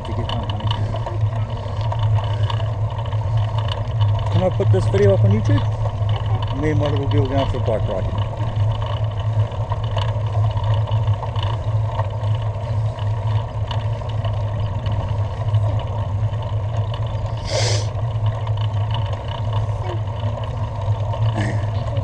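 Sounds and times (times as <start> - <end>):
tyres rolling on asphalt: 0.0 - 22.0.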